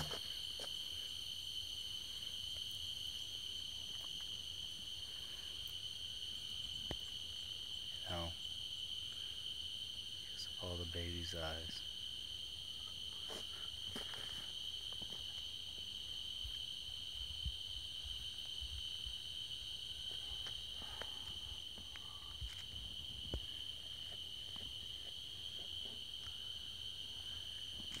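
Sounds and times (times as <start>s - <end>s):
night insects trilling: 0.0s - 28.0s.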